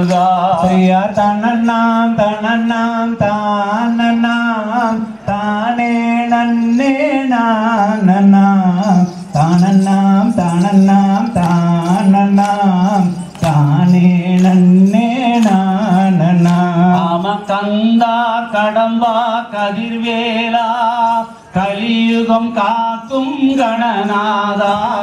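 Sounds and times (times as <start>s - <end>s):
man singing through microphone: 0.0s - 25.0s.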